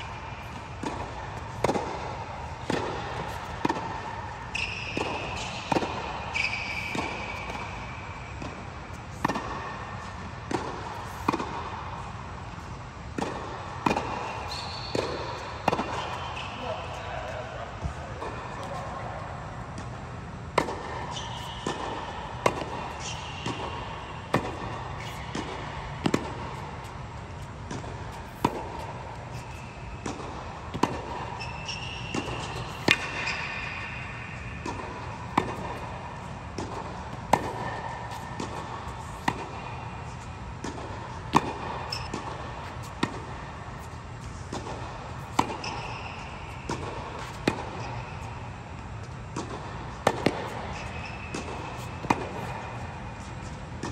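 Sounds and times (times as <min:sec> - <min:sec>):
tennis ball bouncing: 0:00.0 - 0:53.9
tennis ball struck by racket: 0:00.0 - 0:53.9.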